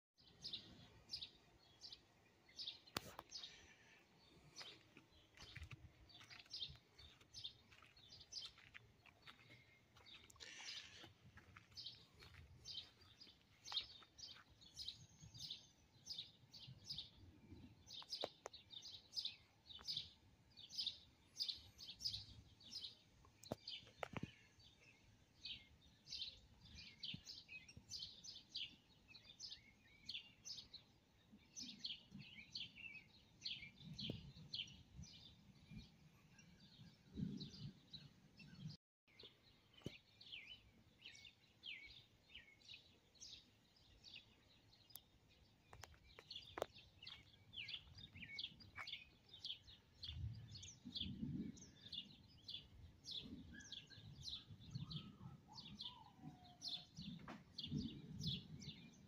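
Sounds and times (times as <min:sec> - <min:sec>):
faint bird chirping: 0:00.2 - 0:59.0.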